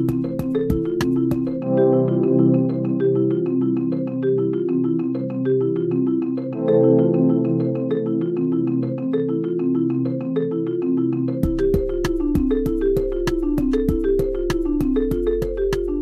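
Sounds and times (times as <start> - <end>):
marimba-like mallet melody: 0.0 - 16.0.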